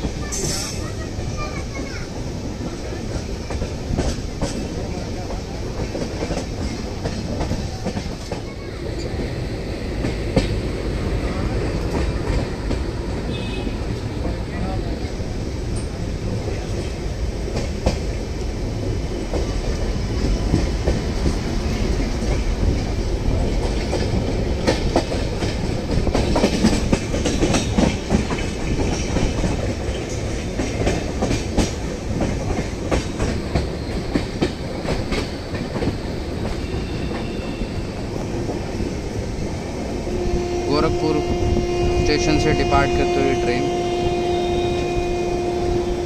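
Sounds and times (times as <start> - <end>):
train wheels clattering over rail joints: 0.0 - 14.4, 15.0 - 40.0.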